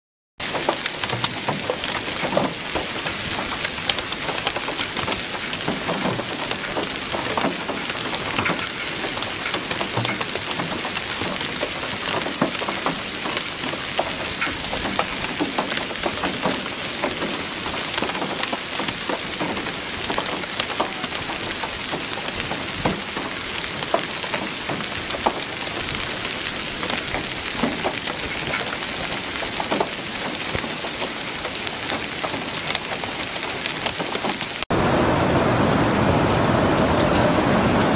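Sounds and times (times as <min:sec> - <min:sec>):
heavy rain and hail on paving: 0:00.4 - 0:37.9.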